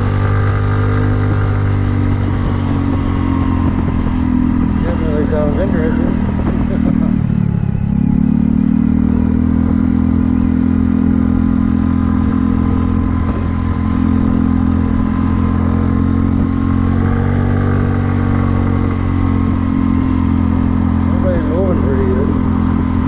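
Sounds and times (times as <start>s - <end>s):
scooter engine running: 0.0s - 23.0s.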